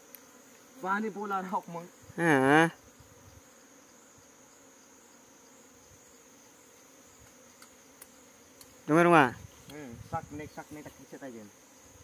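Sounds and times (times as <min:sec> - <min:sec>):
faint insect drone: 0:00.0 - 0:12.0.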